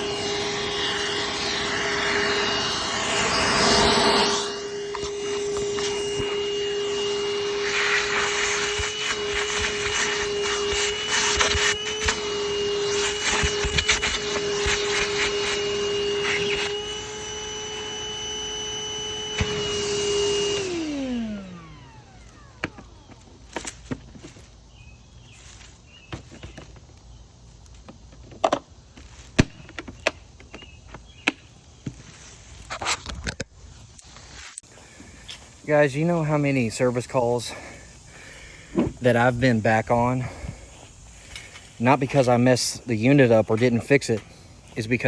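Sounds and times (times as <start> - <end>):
shop vacuum whining: 0.0 - 45.0.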